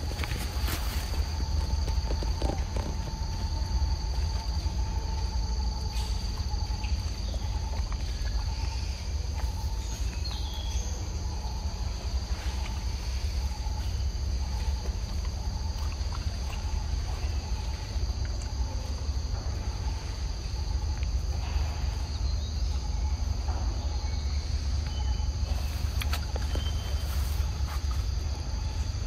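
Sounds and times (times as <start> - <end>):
insects singing: 0.0 - 29.0.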